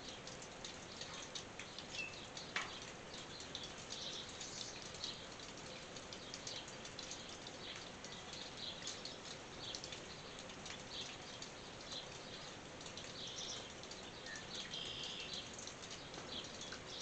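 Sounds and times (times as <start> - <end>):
light rain on a tin roof: 0.0 - 17.0.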